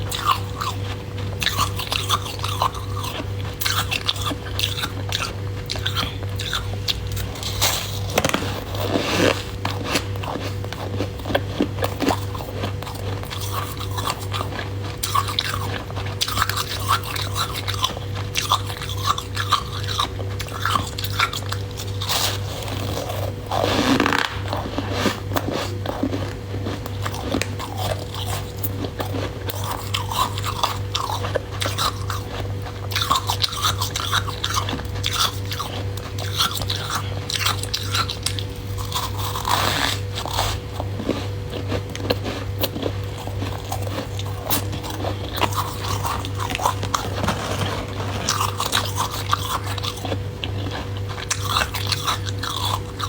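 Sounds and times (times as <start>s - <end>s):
person crunching frost: 0.0s - 53.0s.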